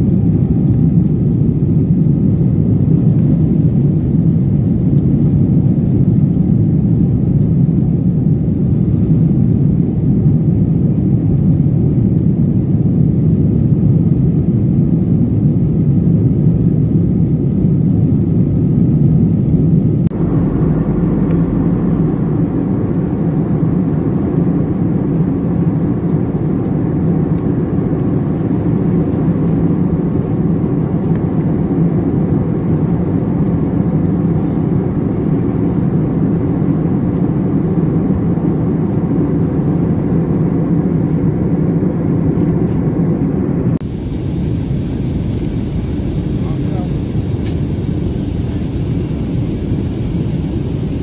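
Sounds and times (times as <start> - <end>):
jet airliner cabin noise: 0.0 - 51.0.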